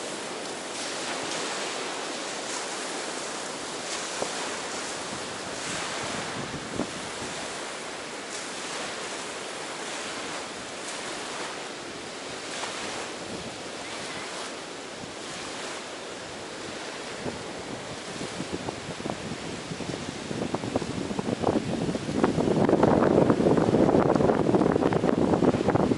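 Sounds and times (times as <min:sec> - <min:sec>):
ocean surf washing onto beach: 0:00.0 - 0:25.9.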